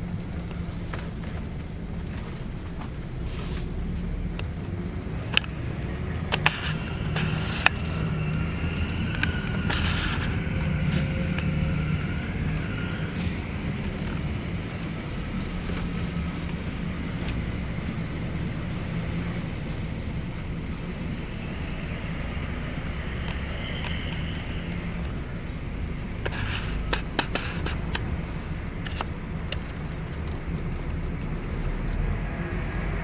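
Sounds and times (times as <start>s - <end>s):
bus engine and road noise rumble: 0.0s - 33.0s
sharp clicks and rattles: 4.3s - 21.7s, 22.3s - 32.8s.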